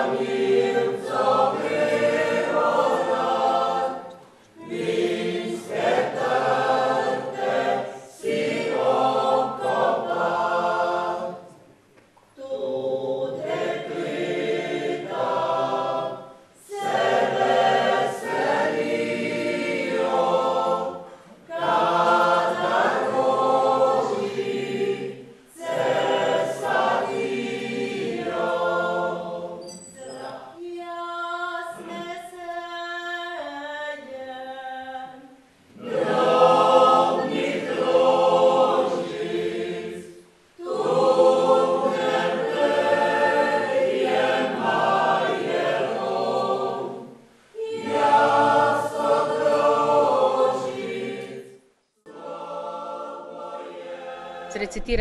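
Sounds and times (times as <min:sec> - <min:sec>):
mixed choir singing unaccompanied: 0:00.0 - 0:11.7, 0:12.4 - 0:55.0.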